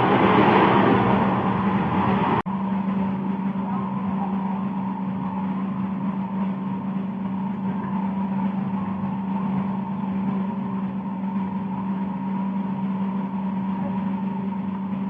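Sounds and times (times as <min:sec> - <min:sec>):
low hum with high whine: 0:00.0 - 0:15.0.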